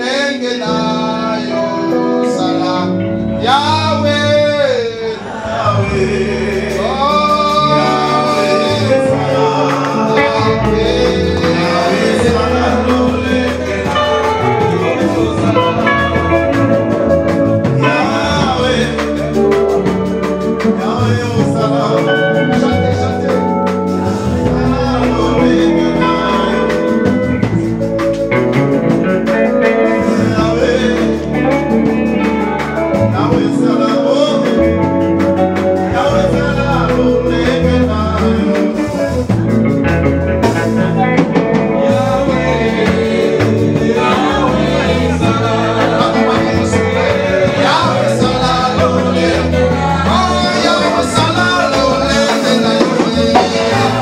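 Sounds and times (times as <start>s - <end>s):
bass guitar: 0.0s - 54.0s
electric guitar: 0.0s - 54.0s
voices singing worship song: 0.0s - 54.0s.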